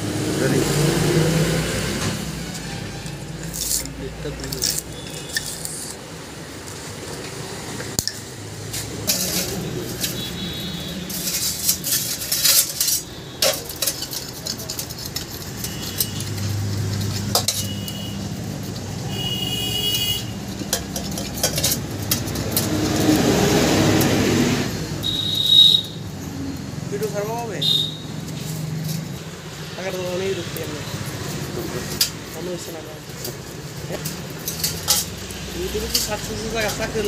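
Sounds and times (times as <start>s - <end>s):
metal clinks and scrapes: 2.4s - 25.1s, 28.1s - 37.0s.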